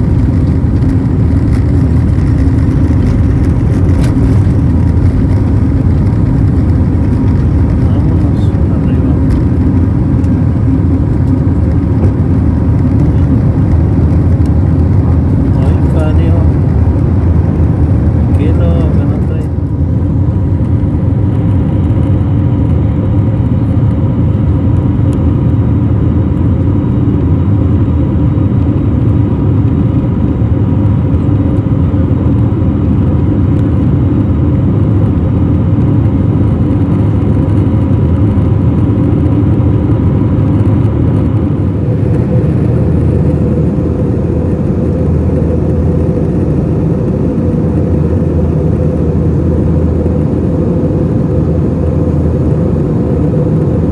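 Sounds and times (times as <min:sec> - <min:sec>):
jet airliner cabin drone: 0:00.0 - 0:53.9.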